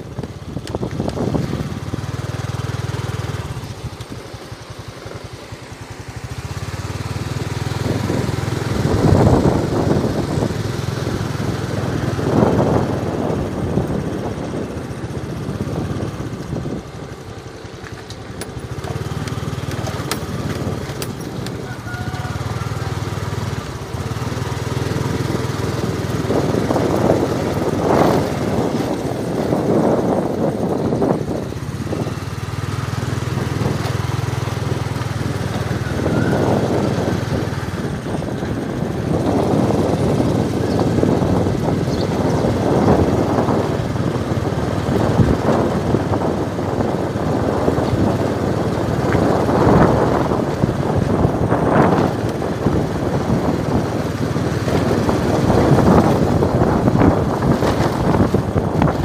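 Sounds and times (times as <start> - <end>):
wind buffeting microphone: 0.0 - 5.3, 6.0 - 59.0
motorbike engine running: 0.0 - 59.0.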